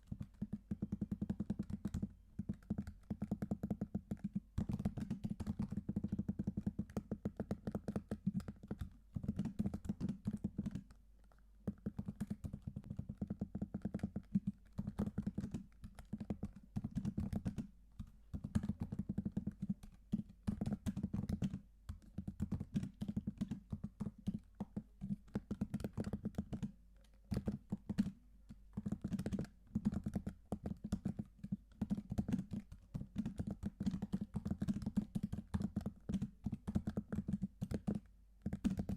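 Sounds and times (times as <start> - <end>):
typing on computer keyboard: 0.0 - 38.9.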